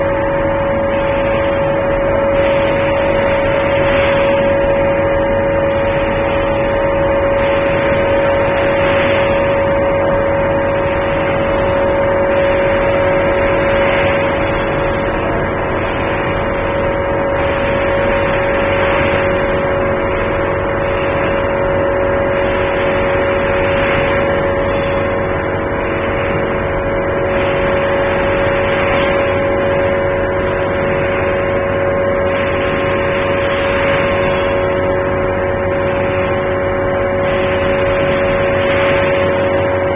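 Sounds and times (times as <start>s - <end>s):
machine hum with constant tones: 0.0s - 39.9s.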